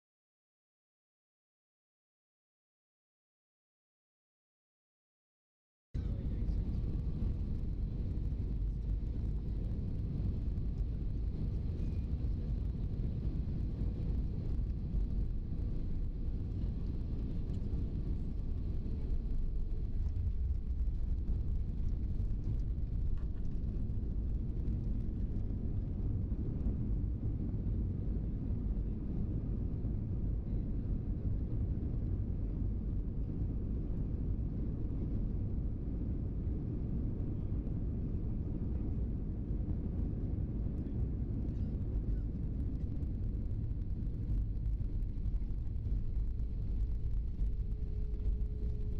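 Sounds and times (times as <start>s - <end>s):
airliner engines rumbling in cabin: 6.0s - 48.9s
faint steady hum: 6.0s - 48.9s.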